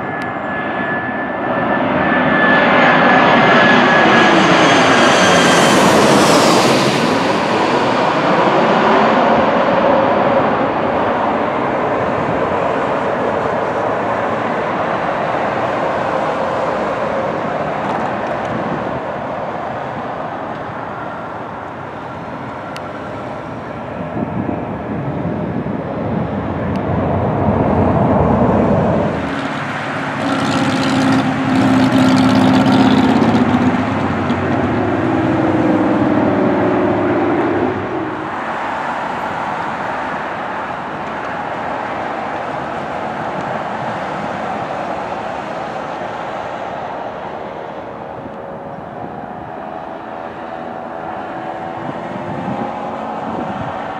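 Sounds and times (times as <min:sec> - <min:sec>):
jet engine rumble: 0:00.0 - 0:53.9
steady engine tone: 0:00.0 - 0:53.9.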